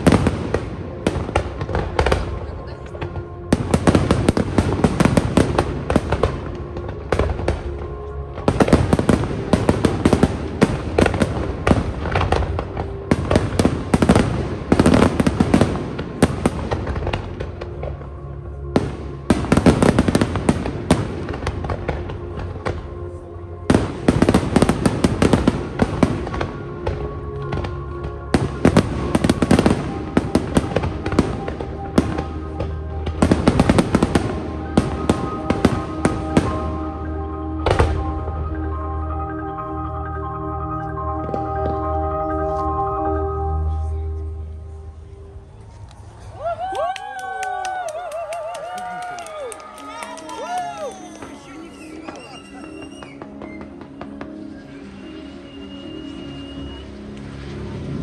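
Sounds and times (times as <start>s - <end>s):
fireworks banging and crackling: 0.0s - 39.9s, 40.9s - 43.7s, 46.4s - 58.0s
music playing: 0.0s - 58.0s.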